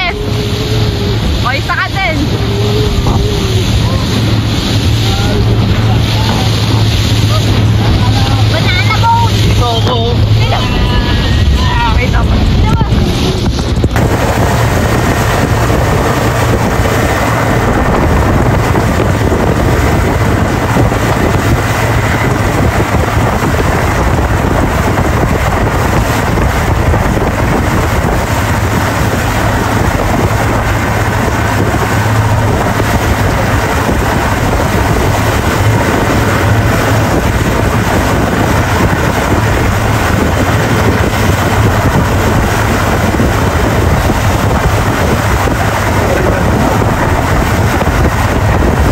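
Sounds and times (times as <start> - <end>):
churning wake rushing: 0.0 - 48.9
motorboat engine running: 0.0 - 48.9
wind buffeting microphone: 0.0 - 48.9.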